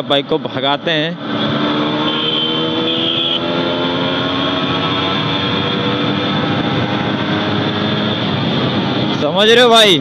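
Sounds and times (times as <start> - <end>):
road noise: 0.0 - 10.0
rushing wind: 0.0 - 10.0
motorcycle engine running: 1.2 - 9.4.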